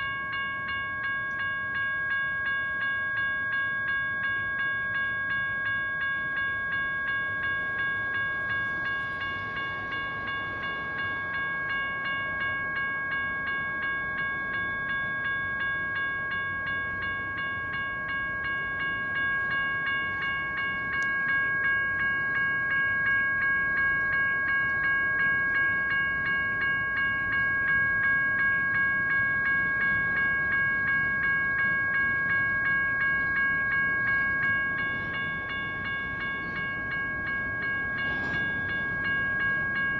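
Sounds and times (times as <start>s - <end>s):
crossing bell ringing: 0.0s - 39.9s
train rumbling past: 4.3s - 39.9s.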